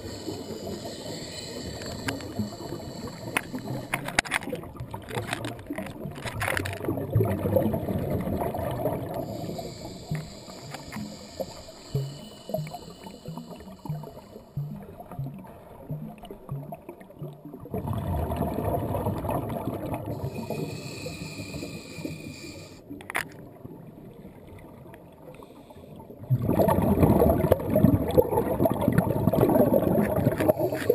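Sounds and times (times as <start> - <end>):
underwater water rumble and bubbles: 0.0 - 30.9.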